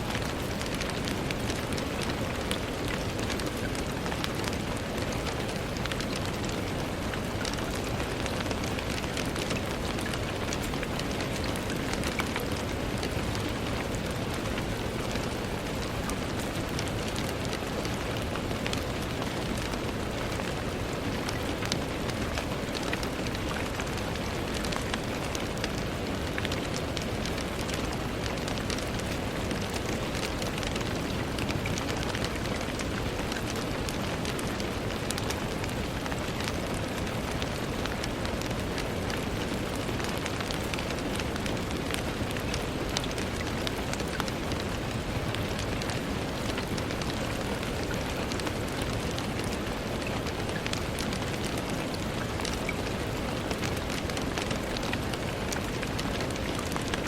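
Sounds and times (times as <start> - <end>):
rain on a window pane: 0.0 - 57.0.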